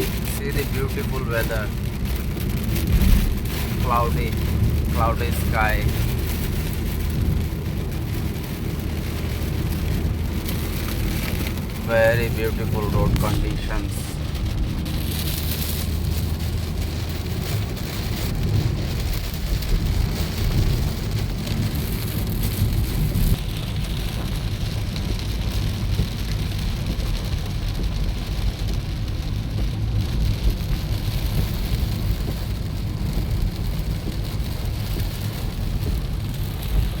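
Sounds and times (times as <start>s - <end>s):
steady rain hiss: 0.0s - 37.0s
vehicle rumbling on road: 0.0s - 37.0s.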